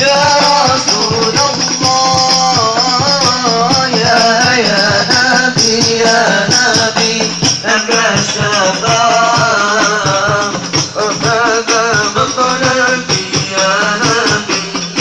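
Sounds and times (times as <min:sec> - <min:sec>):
frame drums with jingles: 0:00.0 - 0:15.0
man singing ornamented melody: 0:00.0 - 0:15.0.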